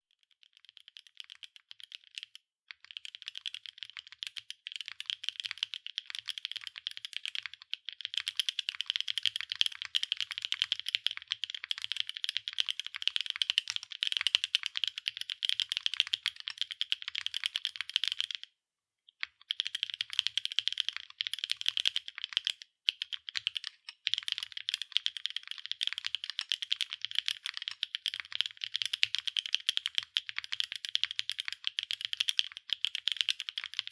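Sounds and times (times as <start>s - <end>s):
fast typing on mechanical keyboard: 0.2s - 18.5s, 19.2s - 33.9s.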